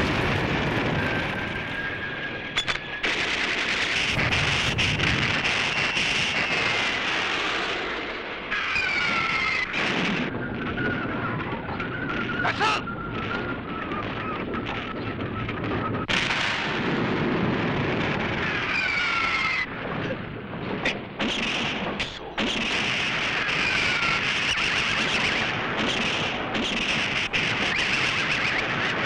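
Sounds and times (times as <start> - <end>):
explosions: 0.0 - 29.0
gunfire-like bangs: 0.0 - 29.0
jet fighter roar: 0.0 - 29.0.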